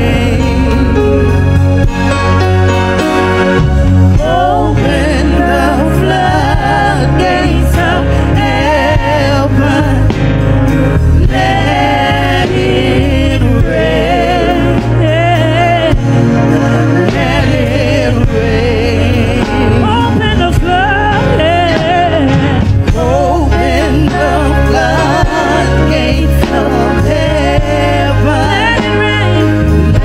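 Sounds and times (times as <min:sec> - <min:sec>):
women singing gospel song: 0:00.0 - 0:01.3, 0:04.0 - 0:30.0
instrumental backing with bass line: 0:00.0 - 0:30.0.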